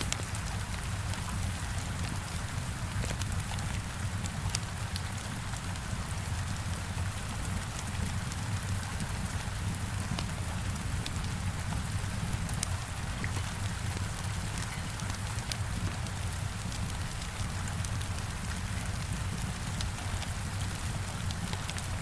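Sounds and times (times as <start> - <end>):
heavy rain falling: 0.0 - 22.0
wood fire crackling: 0.0 - 22.0.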